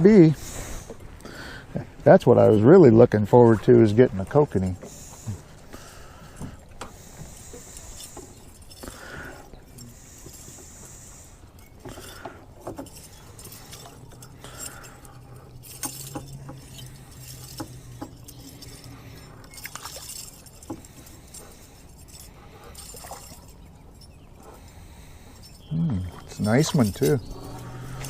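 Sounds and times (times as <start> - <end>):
fishing tackle clicks and clinks: 2.3 - 28.0.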